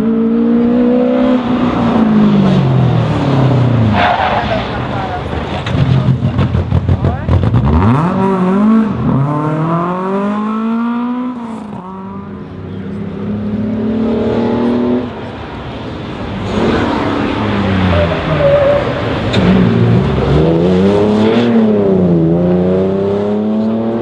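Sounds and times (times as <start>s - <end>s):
rally car engine accelerating: 0.0s - 24.0s
rough car engine and tyres: 0.0s - 24.0s.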